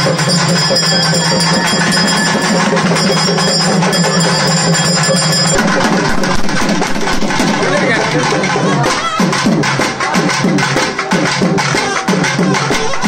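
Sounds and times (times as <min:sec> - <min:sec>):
temple bells ringing rapidly: 0:00.0 - 0:11.6
music with voices: 0:00.0 - 0:13.0.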